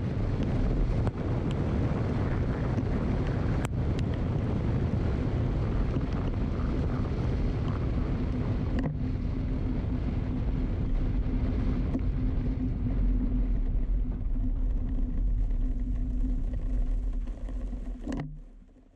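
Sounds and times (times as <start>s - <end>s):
wind noise on microphone: 0.0s - 18.8s
low hum: 0.0s - 18.9s
low rumble of moving: 0.0s - 18.9s.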